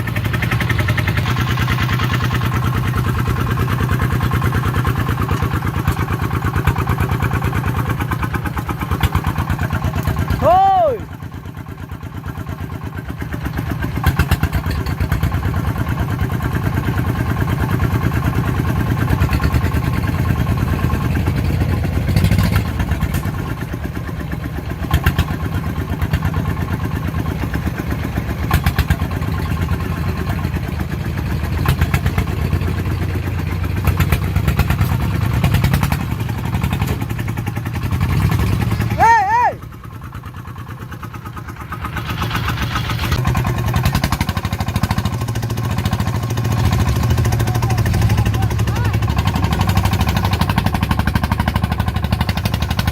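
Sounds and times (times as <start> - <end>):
engine knocks: 0.0 - 10.4, 11.1 - 39.0, 39.6 - 52.9
diesel engine chugging: 0.0 - 52.9.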